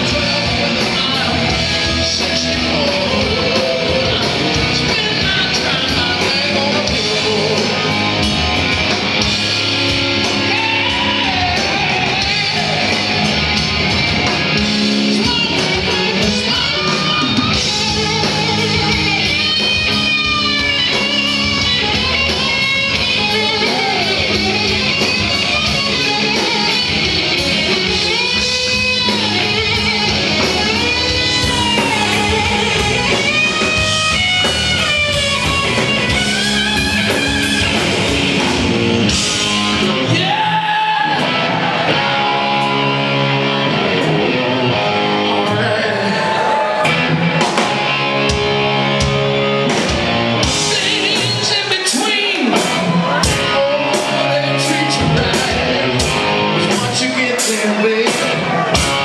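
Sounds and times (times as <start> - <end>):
electric guitar bending notes: 0.0 - 59.0
live rock band playing: 0.0 - 59.0.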